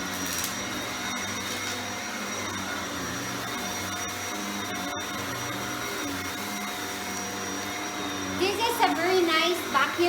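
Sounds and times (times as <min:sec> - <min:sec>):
vacuum cleaner running on carpet: 0:00.0 - 0:10.0.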